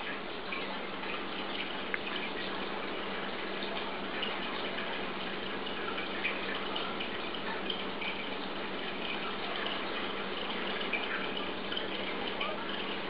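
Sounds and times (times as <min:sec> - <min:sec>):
faint low hum: 0:00.0 - 0:13.0
running water: 0:00.0 - 0:13.0.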